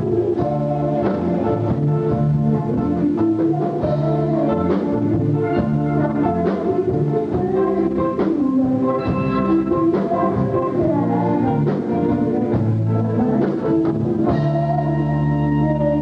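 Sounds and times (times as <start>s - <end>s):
live band playing pop song: 0.0s - 16.0s.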